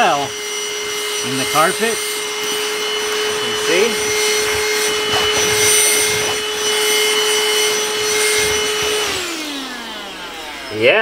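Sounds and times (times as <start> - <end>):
gritty scraping of vacuum nozzle: 0.0 - 10.9
handheld vacuum whining: 0.0 - 11.0.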